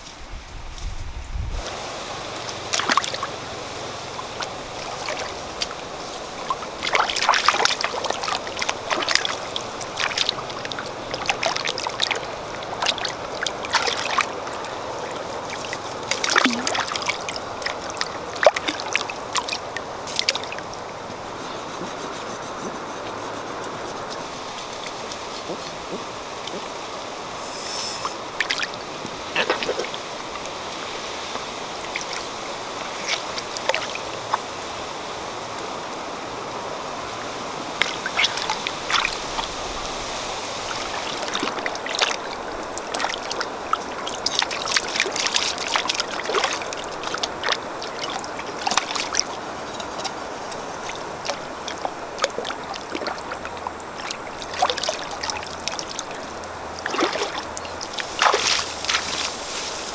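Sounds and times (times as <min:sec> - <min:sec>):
steady hiss of stream water: 0:00.0 - 0:59.9
water splashing from hands: 0:01.7 - 0:26.8, 0:28.0 - 0:34.5, 0:37.8 - 0:59.9.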